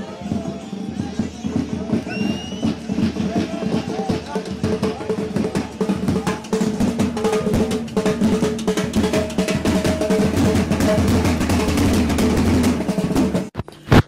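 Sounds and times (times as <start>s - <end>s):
marching drums with rolls: 0.0s - 13.6s.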